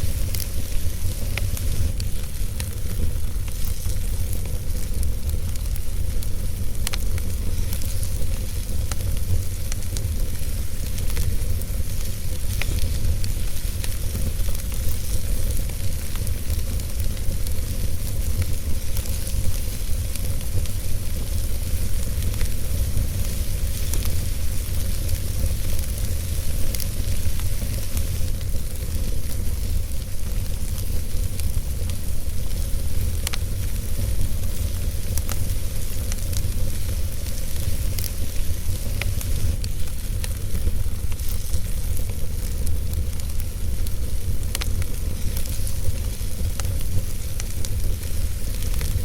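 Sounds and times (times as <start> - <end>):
fire burning with low rumble: 0.0 - 49.0
fire crackling and popping: 0.0 - 49.0.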